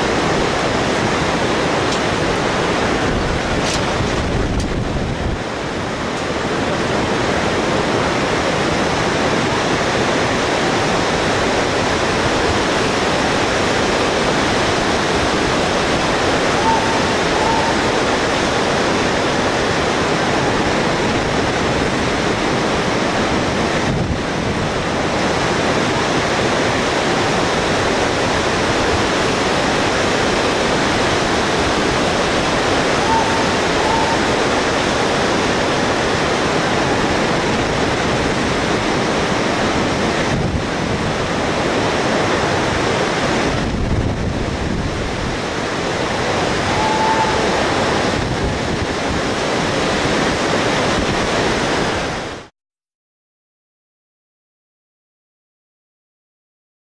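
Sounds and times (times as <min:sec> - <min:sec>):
wind on microphone: 0:00.0 - 0:52.4
whitewater river rushing: 0:00.0 - 0:52.5.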